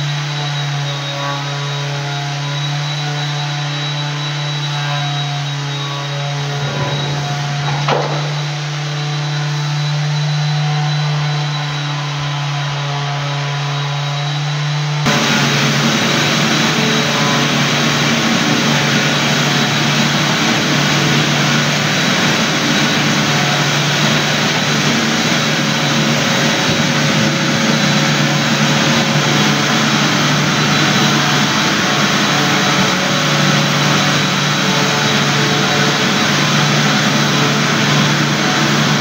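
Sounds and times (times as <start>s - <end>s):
floor machine motor humming: 2.6s - 39.0s.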